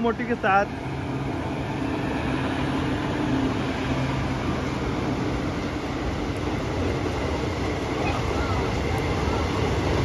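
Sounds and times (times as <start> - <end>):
electric locomotive hum: 0.0 - 10.0
train running gear rumble: 0.0 - 10.0.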